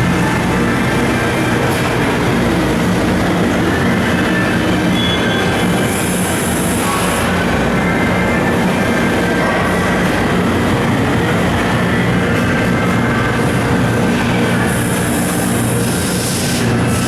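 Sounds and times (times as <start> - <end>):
machining center mechanical hum: 0.0 - 17.0.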